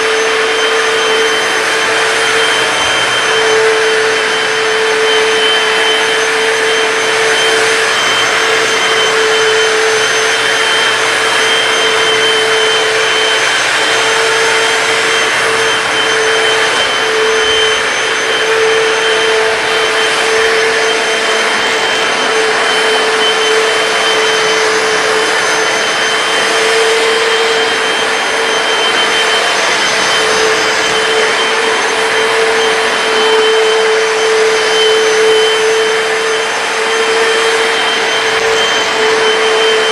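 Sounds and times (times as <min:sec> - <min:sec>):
floor cleaner motor whine: 0:00.0 - 0:39.9
suction noise: 0:00.0 - 0:39.9.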